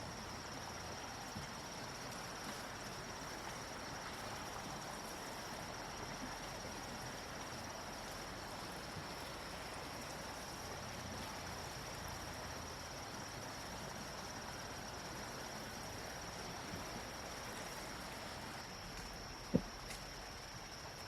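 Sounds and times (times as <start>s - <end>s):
faint background hiss: 0.0s - 21.0s
insects chirring: 0.0s - 21.0s.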